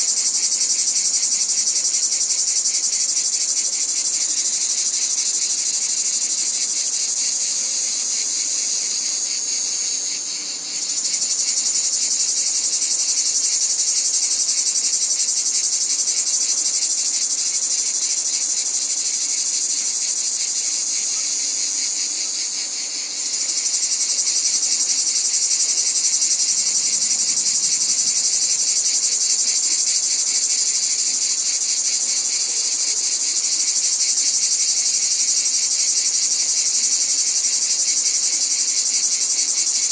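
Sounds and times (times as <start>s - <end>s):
insects chorus shrilling: 0.0s - 39.9s.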